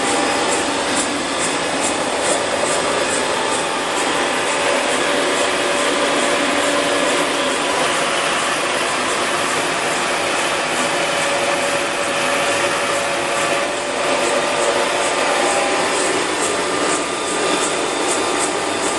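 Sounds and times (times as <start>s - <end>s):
milling machine running: 0.0s - 18.9s.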